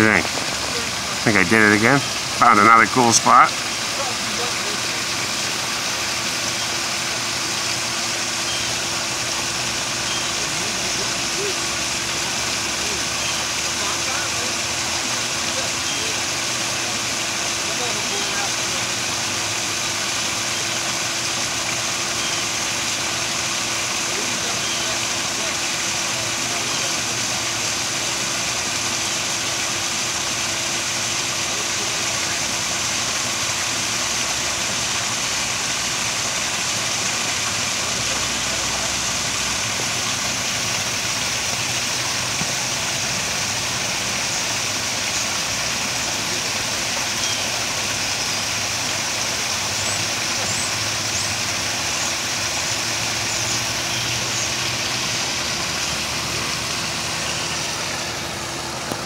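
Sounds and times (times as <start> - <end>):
waterfall pouring into pond: 0.0 - 59.0.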